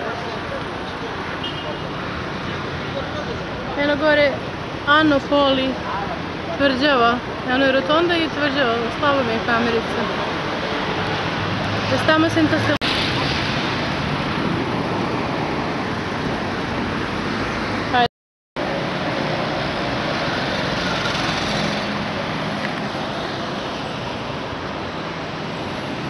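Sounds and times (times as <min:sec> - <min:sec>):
passing cars: 0:00.0 - 0:26.0.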